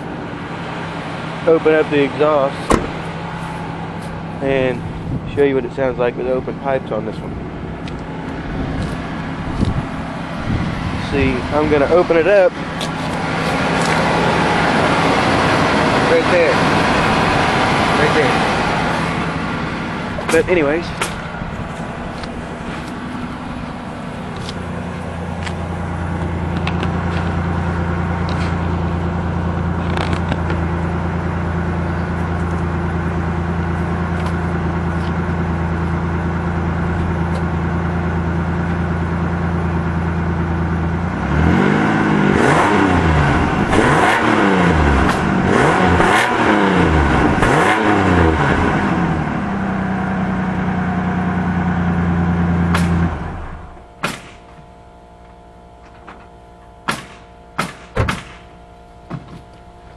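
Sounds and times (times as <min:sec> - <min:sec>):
truck engine idling and revving: 0:00.0 - 0:59.9.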